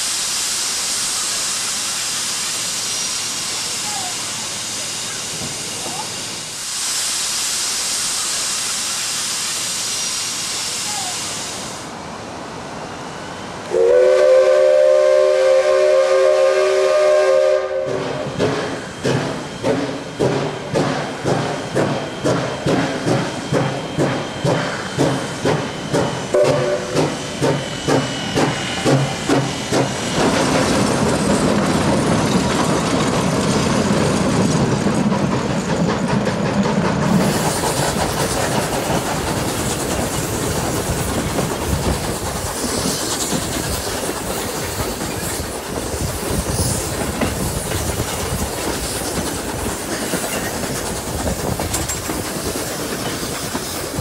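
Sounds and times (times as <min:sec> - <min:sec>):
steam locomotive chuffing: 0:00.0 - 0:12.0, 0:13.5 - 0:54.0
rush of steam: 0:00.0 - 0:54.0
train clattering over rails: 0:01.3 - 0:06.7, 0:13.6 - 0:54.0.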